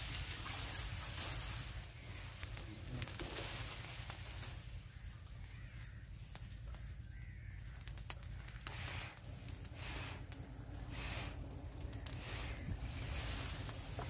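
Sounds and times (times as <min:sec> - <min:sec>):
leaves and twigs rustling: 0:00.0 - 0:14.0
low rumble: 0:00.0 - 0:14.0
bird calls: 0:00.4 - 0:14.0.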